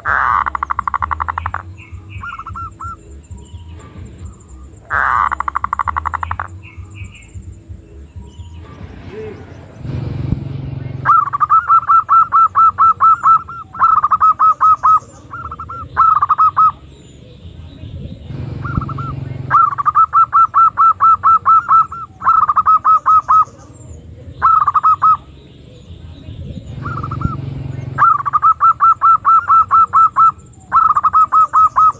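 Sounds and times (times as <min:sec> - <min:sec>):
dove cooing: 0:00.0 - 0:09.9, 0:11.0 - 0:31.9.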